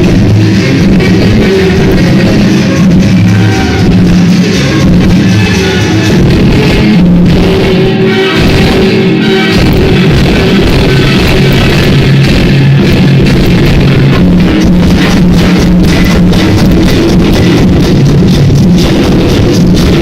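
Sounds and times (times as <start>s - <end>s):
loud music over sound system: 0.0s - 20.0s.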